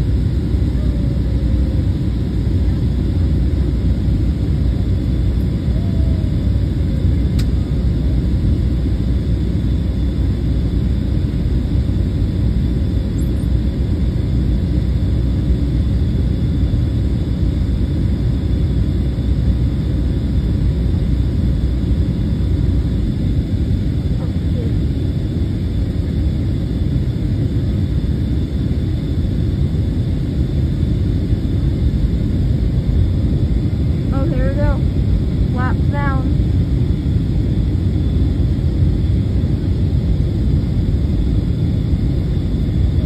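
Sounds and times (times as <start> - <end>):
airplane cabin engine rumble: 0.0 - 43.0
faint high whine: 0.0 - 43.0.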